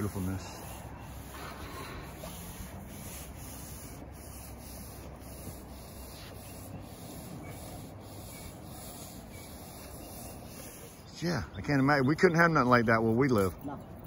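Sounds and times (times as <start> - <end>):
paint rollers spreading adhesive: 0.0 - 11.3
push broom brushing: 0.0 - 11.8.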